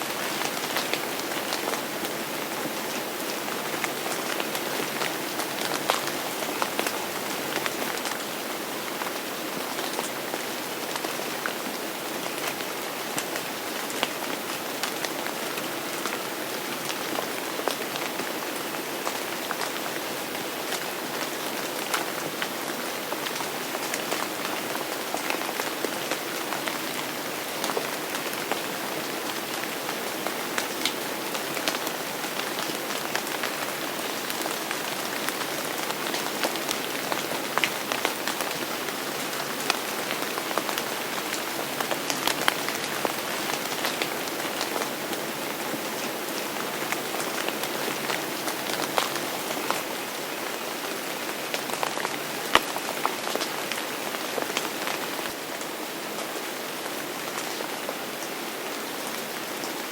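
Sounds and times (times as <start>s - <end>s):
raindrops striking a surface: 0.0s - 56.3s
steady rain hiss: 0.0s - 59.9s.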